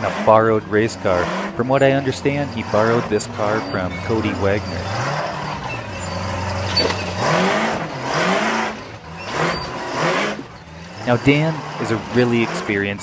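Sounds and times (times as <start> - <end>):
car engine running and revving: 0.0 - 13.0.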